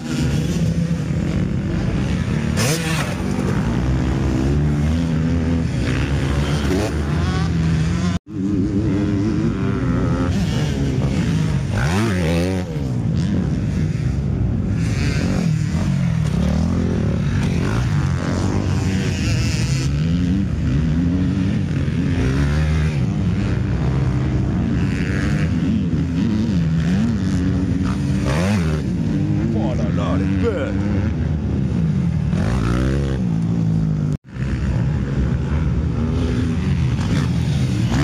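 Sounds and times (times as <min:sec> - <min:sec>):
motocross bike engines revving: 0:00.0 - 0:38.0.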